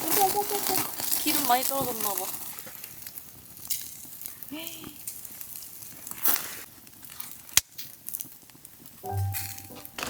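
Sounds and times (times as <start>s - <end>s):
fat crackling on coals: 0.0s - 10.0s
meat sizzling over fire: 0.0s - 10.0s.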